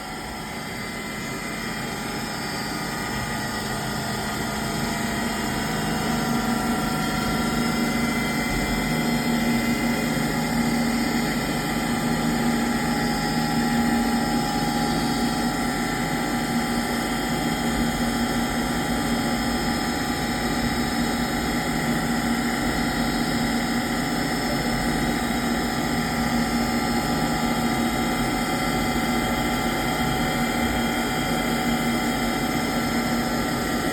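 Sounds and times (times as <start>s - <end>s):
industrial machinery whining hum: 0.0s - 33.9s.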